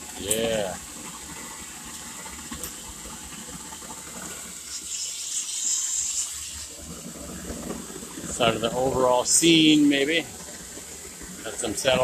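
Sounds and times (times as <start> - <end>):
sprayed concrete hissing from hose: 0.0 - 12.0.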